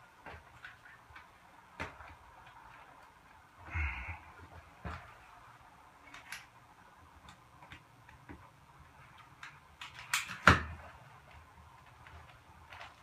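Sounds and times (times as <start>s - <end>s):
rubber liner rustling and clicking: 0.0s - 3.6s, 4.2s - 13.0s.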